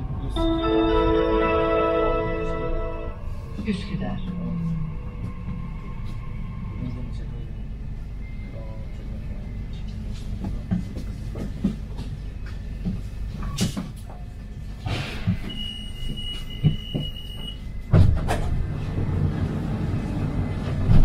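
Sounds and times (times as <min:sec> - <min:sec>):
metro train rumbling: 0:00.0 - 0:21.0.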